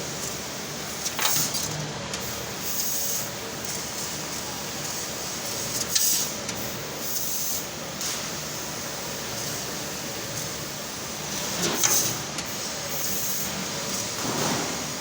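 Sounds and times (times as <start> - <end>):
laser cutter air and fan hiss: 0.0 - 15.0.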